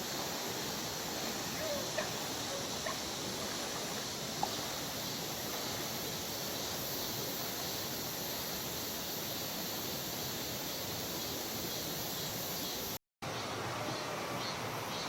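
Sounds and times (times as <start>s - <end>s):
mountain stream rushing: 0.0s - 12.1s, 13.2s - 15.0s.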